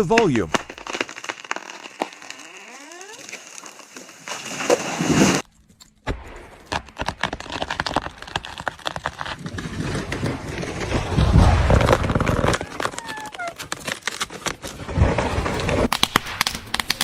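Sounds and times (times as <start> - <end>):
sharp wood cracks and snaps: 0.0 - 4.8, 5.4 - 17.0
tree crashing down: 0.0 - 5.4, 6.1 - 17.0
wood creaking and cracking: 0.0 - 17.0.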